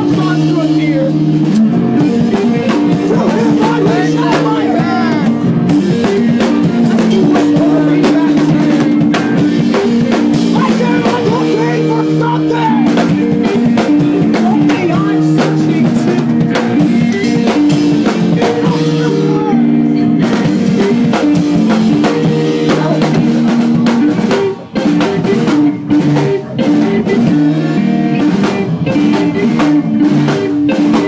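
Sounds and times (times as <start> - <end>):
drum kit with kick and snare: 0.0 - 31.0
interlocking guitar notes: 0.0 - 31.0.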